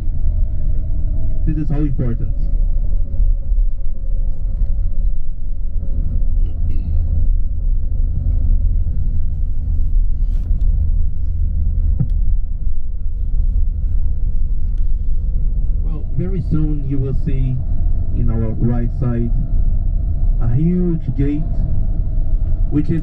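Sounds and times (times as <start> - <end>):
bus engine rumble from inside: 0.0 - 23.0
faint steady hum: 0.0 - 23.0.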